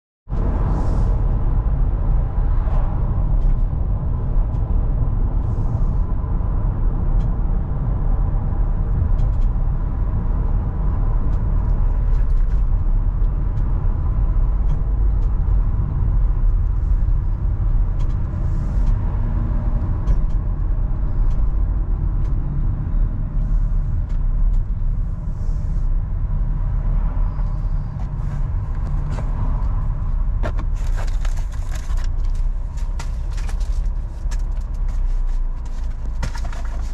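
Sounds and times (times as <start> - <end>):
car engine rumble: 0.3 - 36.9
road noise: 0.3 - 36.9.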